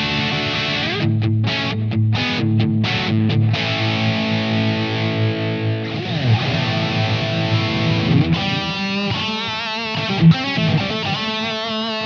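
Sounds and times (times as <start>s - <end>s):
distorted electric guitar: 0.0s - 12.0s.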